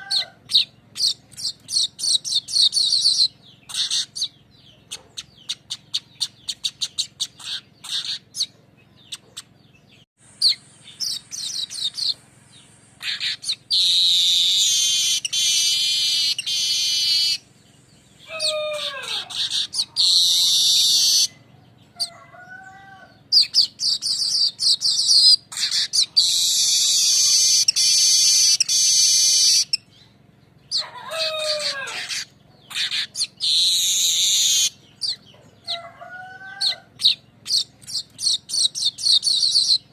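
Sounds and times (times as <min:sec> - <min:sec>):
weaver birds singing: 0:00.0 - 0:39.9.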